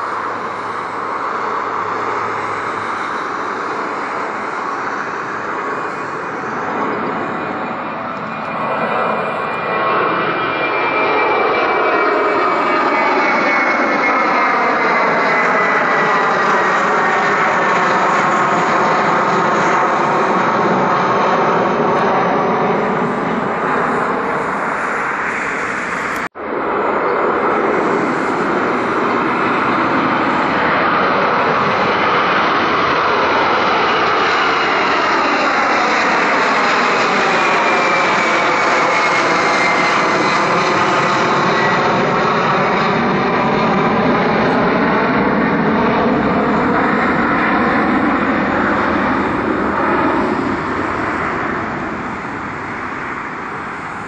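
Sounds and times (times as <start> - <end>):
jet airliner climbing out: 0.0 - 54.0.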